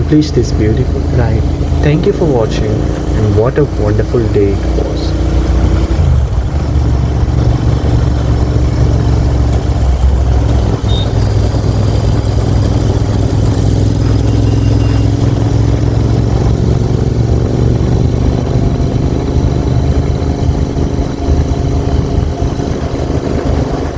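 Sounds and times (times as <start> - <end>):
motorcycle exhaust running steadily: 0.0 - 23.9.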